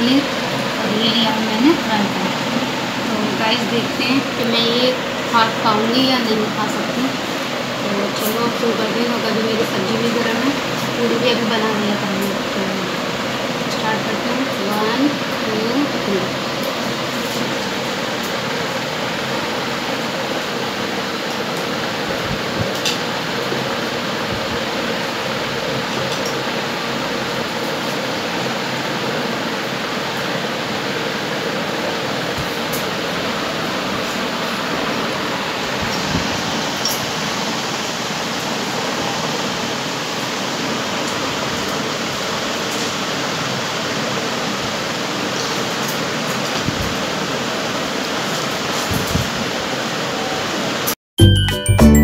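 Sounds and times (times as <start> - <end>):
fan whirring: 0.0 - 51.0.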